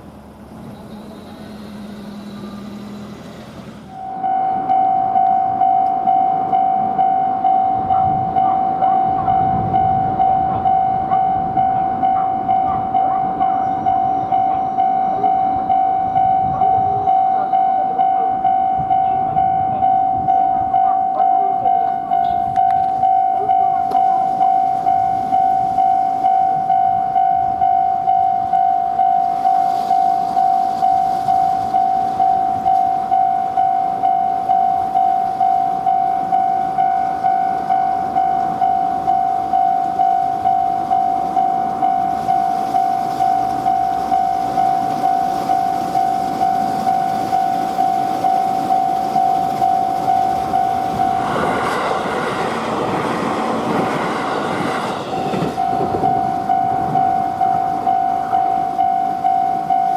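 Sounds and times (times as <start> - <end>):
level-crossing warning bell: 0.0 - 59.9
train rumble: 0.0 - 59.9.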